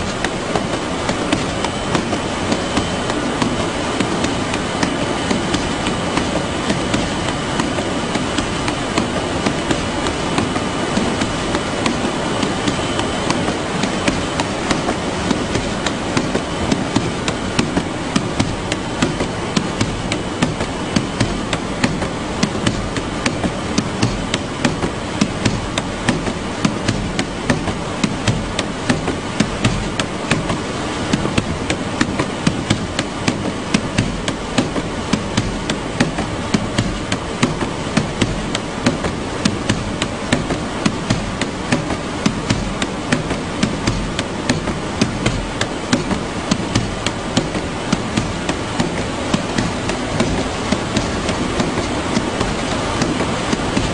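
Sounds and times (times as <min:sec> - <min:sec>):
conveyor machinery rumble: 0:00.0 - 0:53.9
sharp machine clacks: 0:00.0 - 0:53.9.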